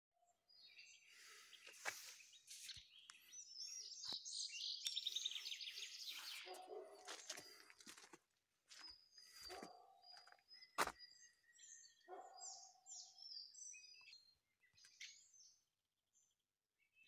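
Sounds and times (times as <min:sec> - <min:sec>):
songbirds singing: 0:00.2 - 0:17.0.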